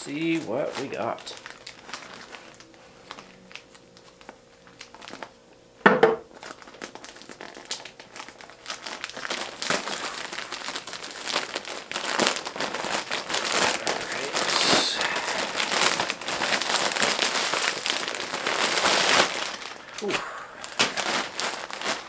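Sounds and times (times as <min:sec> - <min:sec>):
plastic bag crinkling: 0:00.0 - 0:05.4, 0:06.3 - 0:22.0.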